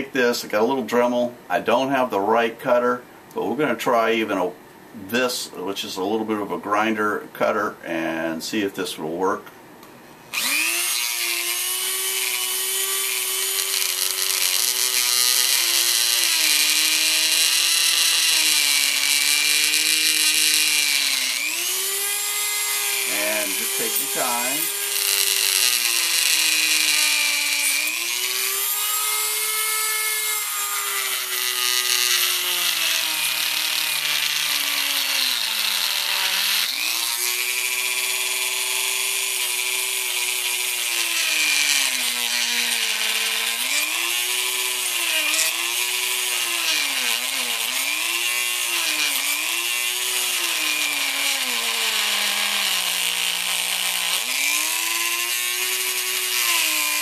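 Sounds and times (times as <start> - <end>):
rotary tool grinding metal: 10.3 - 57.0.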